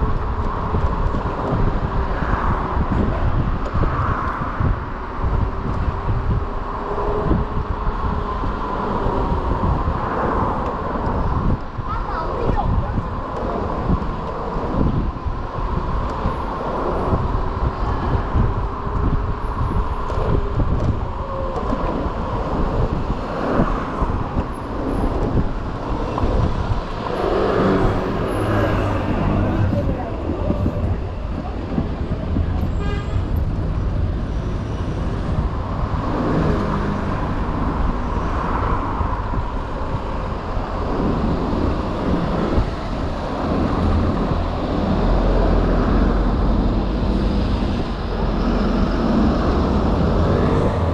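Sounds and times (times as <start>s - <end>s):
cars passing: 0.0s - 50.9s
road rumble: 0.0s - 50.9s
wind buffeting microphone: 0.0s - 50.9s.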